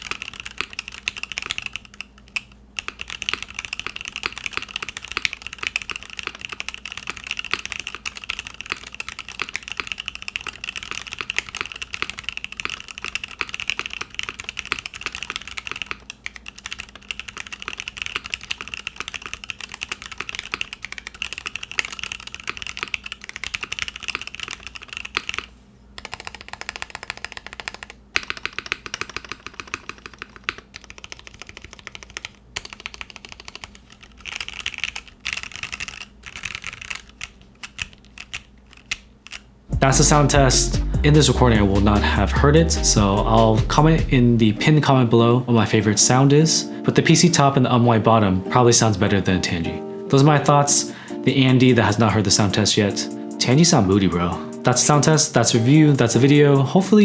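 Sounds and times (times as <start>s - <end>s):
mechanical keyboard typing: 0.0s - 44.6s, 48.5s - 57.0s.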